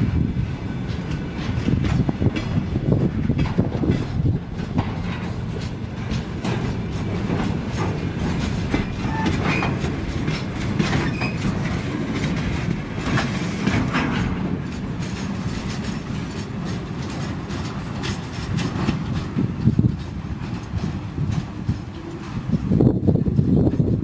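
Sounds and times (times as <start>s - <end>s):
freight train rumbling past: 0.0s - 24.0s
wheels clattering over rail joints: 0.2s - 24.0s.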